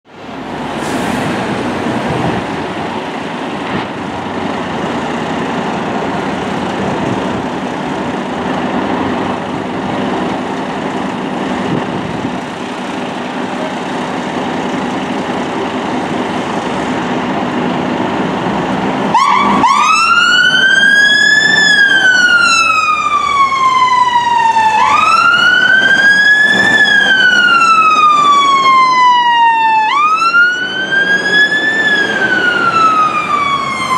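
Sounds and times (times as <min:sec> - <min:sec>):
fire engine diesel engines running: 0:00.1 - 0:33.9
fire engine siren wailing: 0:00.1 - 0:33.9.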